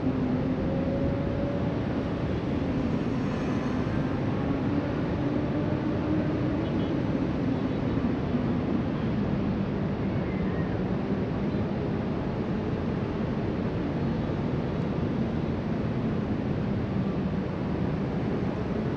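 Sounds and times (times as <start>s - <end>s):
wind: 0.0s - 18.9s.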